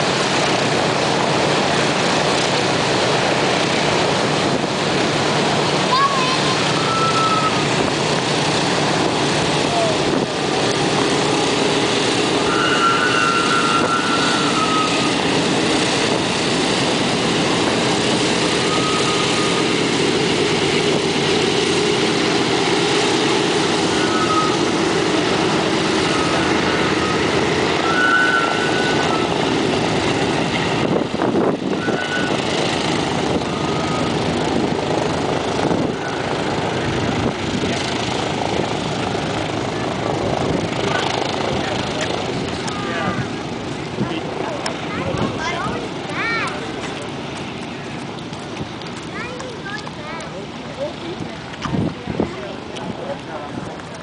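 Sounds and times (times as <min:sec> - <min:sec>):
radial aircraft engines running: 0:00.0 - 0:54.0.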